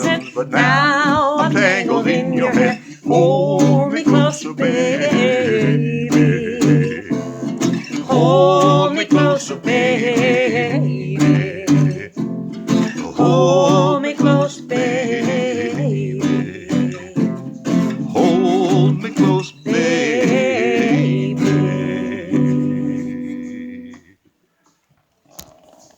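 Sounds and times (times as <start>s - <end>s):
acoustic guitar strumming: 0.0s - 24.1s.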